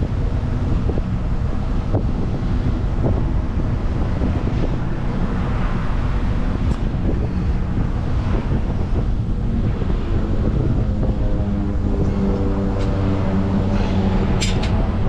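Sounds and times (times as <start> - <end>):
heavy truck engine rumbling: 0.0 - 15.0
wind buffeting microphone: 0.0 - 15.0.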